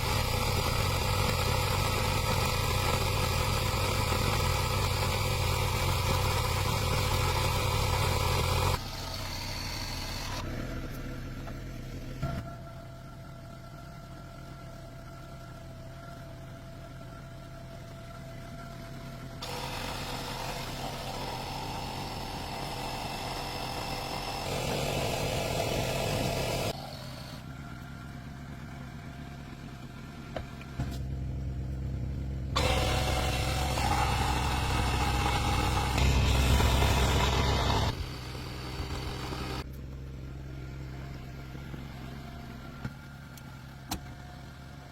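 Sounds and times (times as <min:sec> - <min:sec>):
car engine running: 0:00.0 - 0:44.9.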